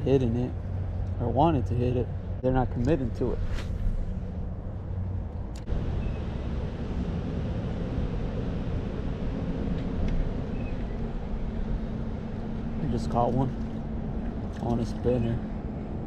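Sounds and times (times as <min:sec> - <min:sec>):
wind buffeting microphone: 0:00.0 - 0:16.0
river ambience: 0:02.1 - 0:16.0.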